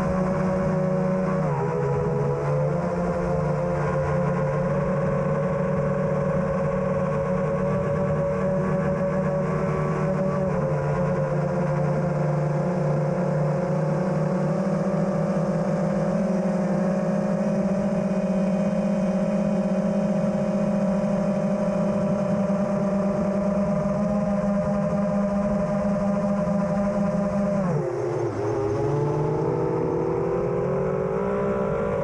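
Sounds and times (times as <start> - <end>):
drone motors humming: 0.0 - 32.0.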